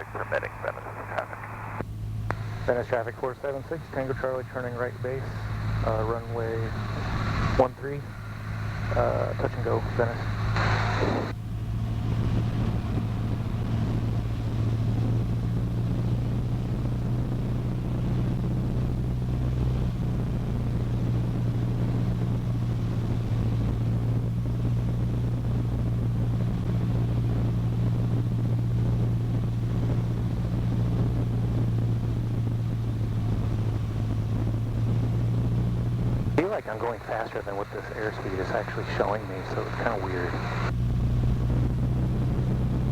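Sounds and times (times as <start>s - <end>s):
airplane engine and propeller droning: 0.0s - 42.9s.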